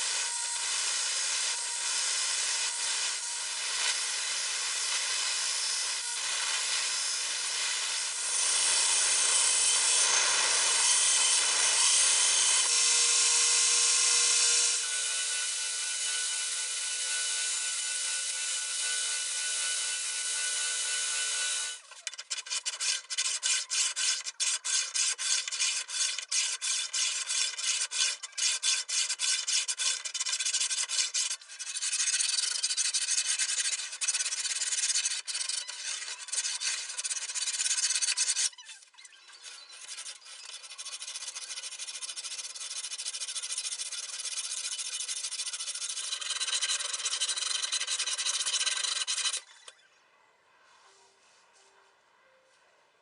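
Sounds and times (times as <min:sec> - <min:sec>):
blade rasping scrape: 0:00.0 - 0:12.8, 0:14.2 - 0:49.8.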